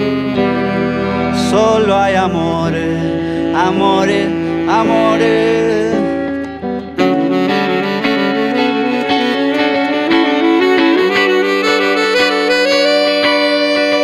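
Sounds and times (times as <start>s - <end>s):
electric guitar chords: 0.0s - 14.0s
saxophone solo: 0.0s - 14.0s.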